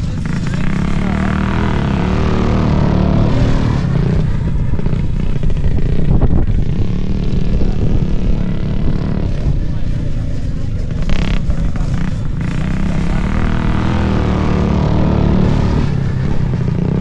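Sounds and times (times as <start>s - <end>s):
mini bike engines running: 0.0s - 17.0s.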